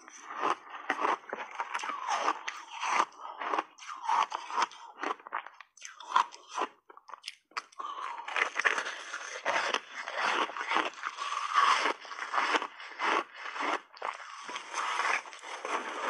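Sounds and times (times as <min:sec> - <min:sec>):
ice crunching and chewing: 0:00.0 - 0:16.0.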